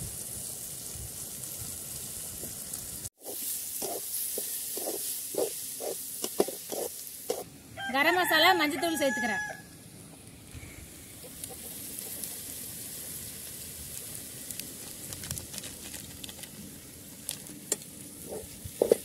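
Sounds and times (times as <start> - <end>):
food sizzling in a pan: 0.0 - 9.6, 10.6 - 19.0.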